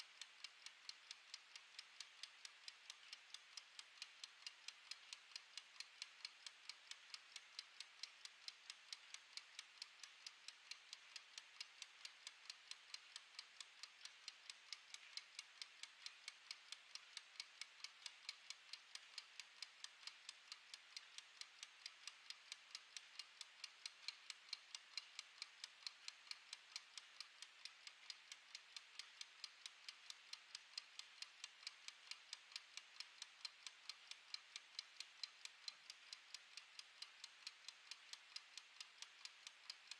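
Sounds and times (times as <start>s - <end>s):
kitchen timer ticking: 0.0s - 39.9s.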